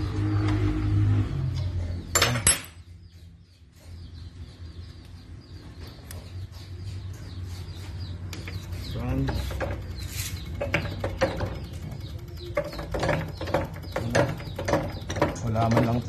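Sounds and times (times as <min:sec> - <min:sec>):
low background hum: 0:00.0 - 0:16.0
low mechanical hum: 0:00.0 - 0:16.0.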